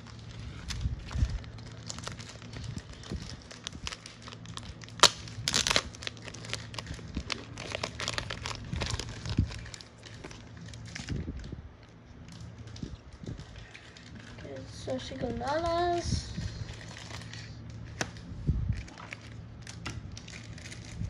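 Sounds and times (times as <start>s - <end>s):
plastic crinkling and clicking: 0.0s - 21.0s.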